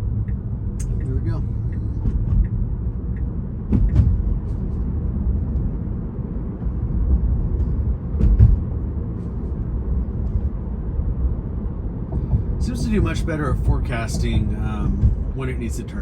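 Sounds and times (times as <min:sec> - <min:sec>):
road and tyre rumble: 0:00.0 - 0:16.0.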